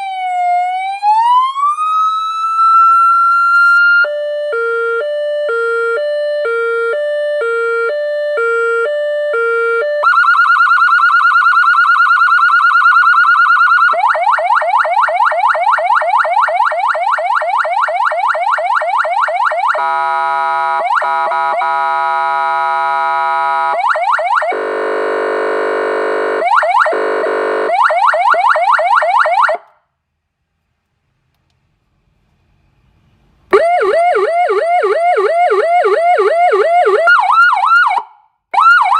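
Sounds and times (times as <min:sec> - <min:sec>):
electronic siren: 0:00.0 - 0:29.7, 0:33.5 - 0:38.9.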